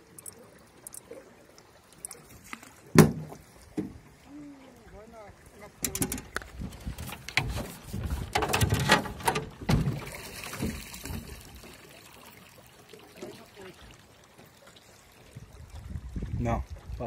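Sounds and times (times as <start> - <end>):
water lapping against hull: 0.0 - 17.0.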